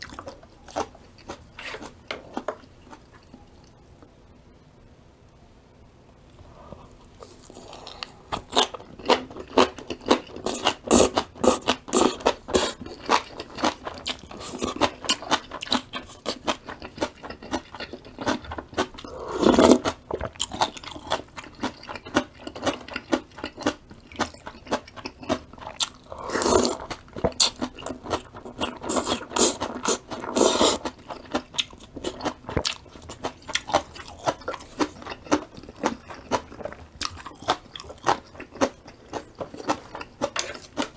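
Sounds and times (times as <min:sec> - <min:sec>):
crunching and chewing food: 0:00.0 - 0:03.8, 0:06.4 - 0:40.9.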